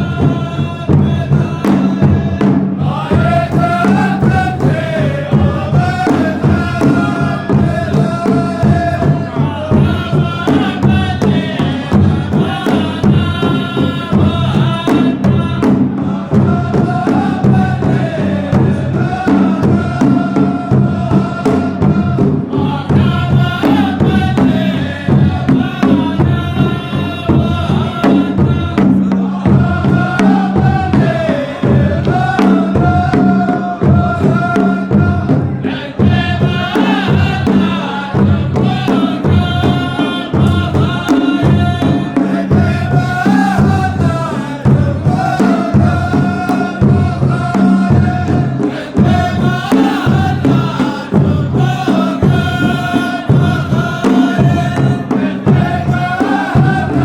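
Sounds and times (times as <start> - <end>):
chanted vocals: 0.0 - 57.0
steady drum beat: 0.0 - 57.0.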